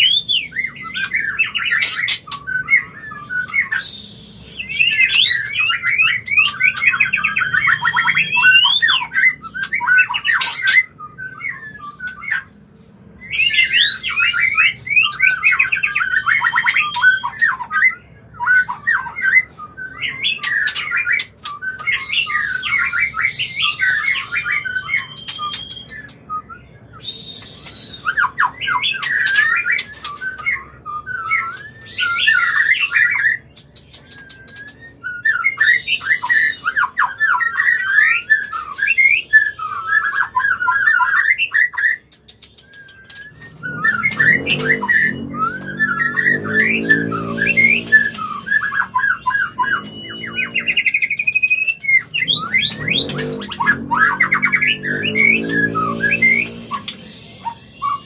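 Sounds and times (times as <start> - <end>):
bird singing whistles and trills: 0.0 - 58.0.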